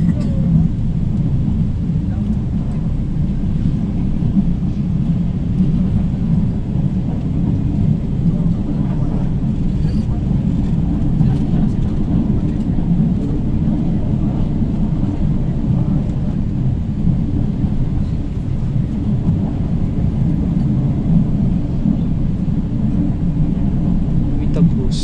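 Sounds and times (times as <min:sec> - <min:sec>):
light-rail train rumble: 0:00.0 - 0:25.0.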